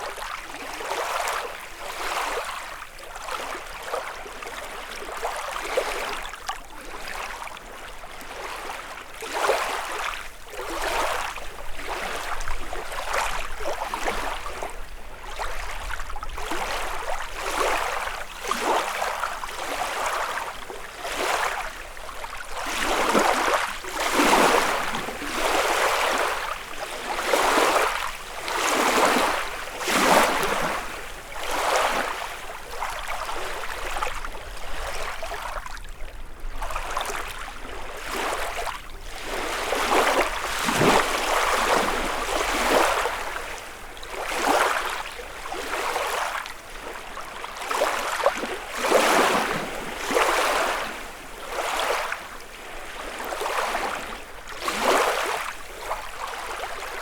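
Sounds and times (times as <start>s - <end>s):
waves lapping on shore: 0.0s - 57.0s.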